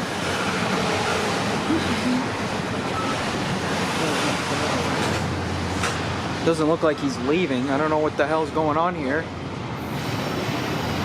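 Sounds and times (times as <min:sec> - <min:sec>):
train wheels on rail: 0:00.0 - 0:11.0.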